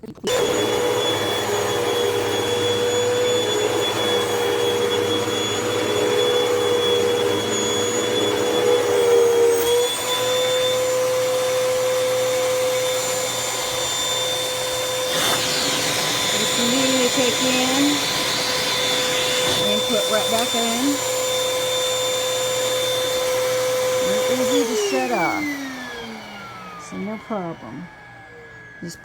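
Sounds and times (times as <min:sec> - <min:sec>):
vacuum cleaner motor whine: 0:00.3 - 0:29.0.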